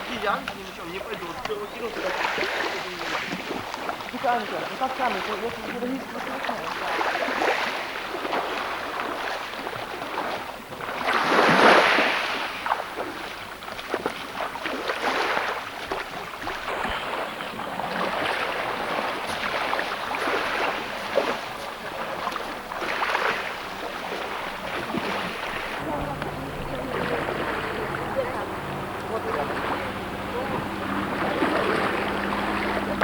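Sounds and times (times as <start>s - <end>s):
sea water splashing: 0.0s - 33.0s.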